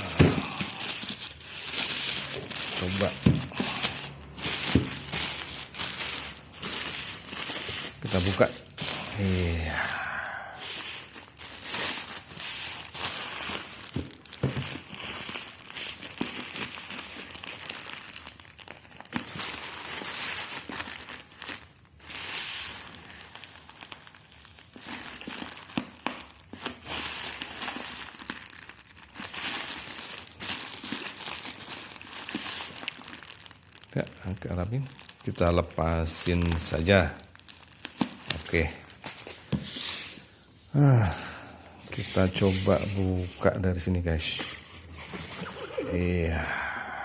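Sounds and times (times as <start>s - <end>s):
plastic packaging crinkling and tearing: 0.0s - 47.0s.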